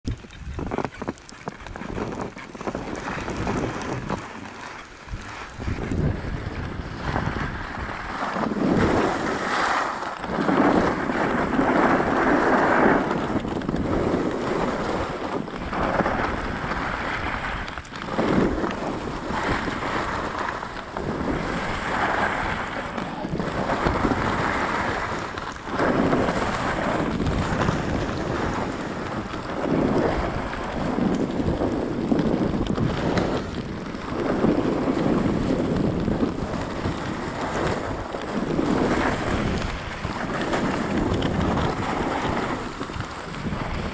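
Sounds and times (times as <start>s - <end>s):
wind on microphone: 0.0s - 43.9s
skis scraping over snow: 0.1s - 43.9s.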